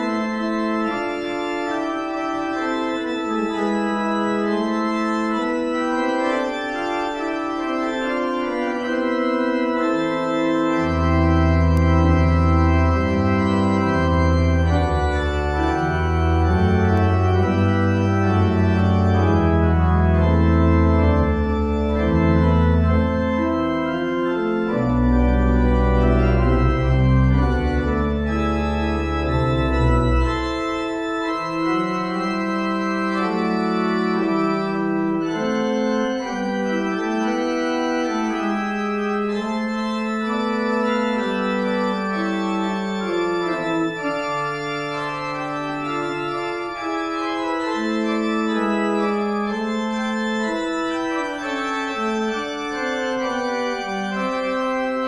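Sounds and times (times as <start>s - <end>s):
church organ chords: 0.0s - 55.0s
deep organ bass notes: 0.0s - 55.0s.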